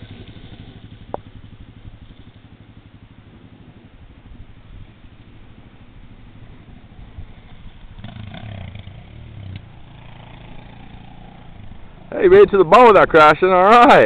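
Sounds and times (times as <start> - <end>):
distant motorcycle engine droning: 0.0 - 14.0.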